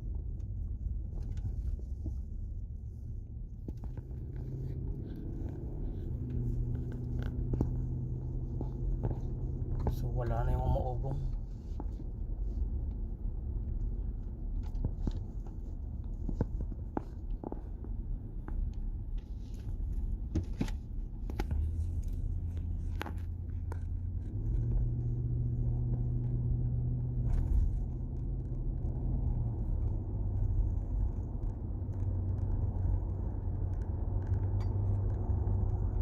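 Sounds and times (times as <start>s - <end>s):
low road and drivetrain rumble: 0.0s - 36.0s.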